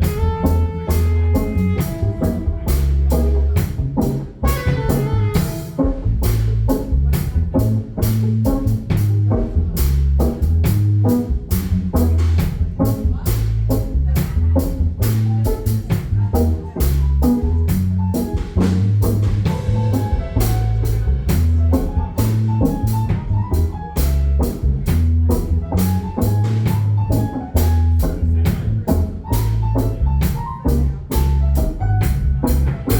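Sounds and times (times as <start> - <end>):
bass line: 0.0 - 32.9
drum kit steady beat: 0.0 - 32.9
guitar: 0.0 - 32.9.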